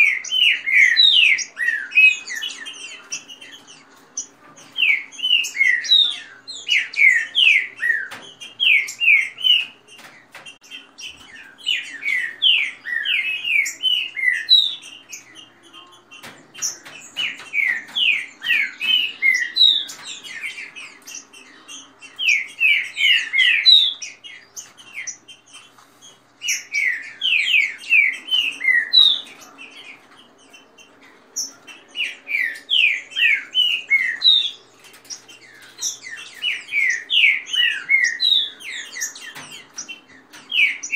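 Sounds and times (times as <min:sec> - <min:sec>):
birds singing whistled phrases: 0:00.0 - 0:40.9
soft bird chirps: 0:00.0 - 0:40.9.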